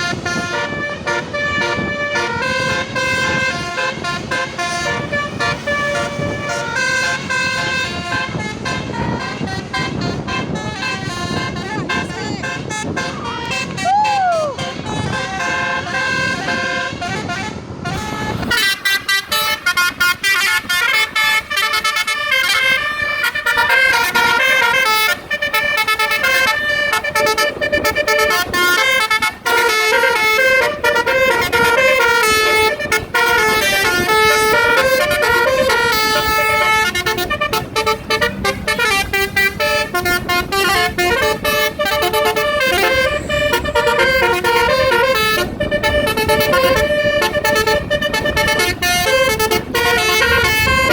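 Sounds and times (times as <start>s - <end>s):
bus horn playing melodies: 0.0s - 50.9s.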